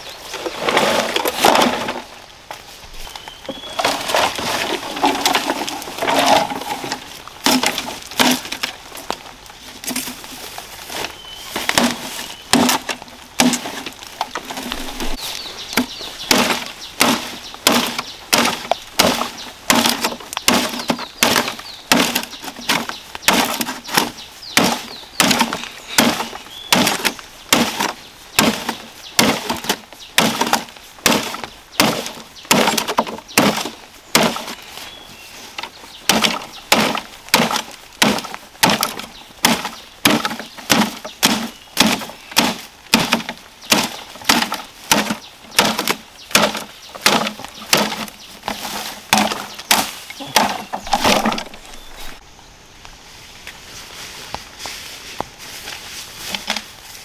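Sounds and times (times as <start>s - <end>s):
wood being struck and cracked: 0.6s - 2.1s, 3.5s - 34.6s, 35.6s - 52.2s, 56.3s - 56.7s
bird chirping: 2.9s - 8.5s, 9.5s - 13.0s, 13.6s - 30.5s, 31.5s - 37.2s, 39.0s - 53.6s.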